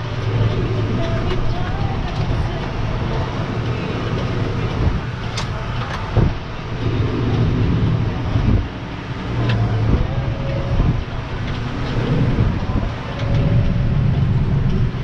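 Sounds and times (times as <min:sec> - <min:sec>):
tractor engine: 0:00.0 - 0:15.0
trailers rolling rumble: 0:00.0 - 0:15.0.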